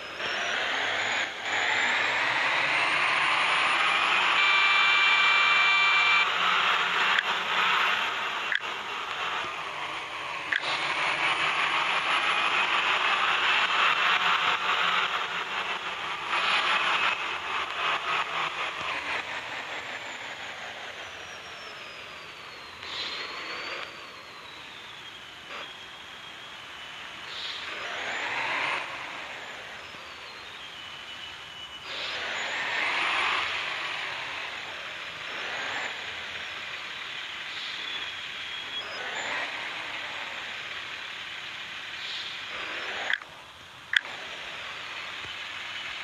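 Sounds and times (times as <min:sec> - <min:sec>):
truck engine rumble: 0:00.0 - 0:46.0.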